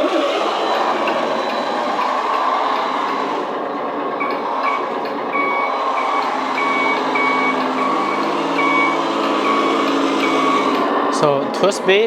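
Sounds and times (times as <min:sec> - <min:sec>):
reversing beeps: 0:00.0 - 0:03.5, 0:04.2 - 0:10.8
simulated truck engine: 0:00.0 - 0:12.0.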